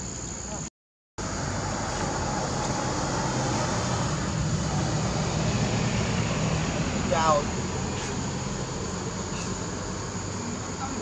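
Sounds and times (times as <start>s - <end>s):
constant hiss: 0.0s - 11.0s
low rumbling noise: 1.2s - 10.8s.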